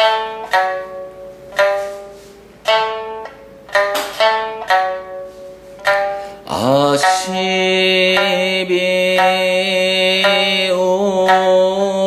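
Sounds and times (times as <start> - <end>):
plucked lute notes: 0.0 - 12.0.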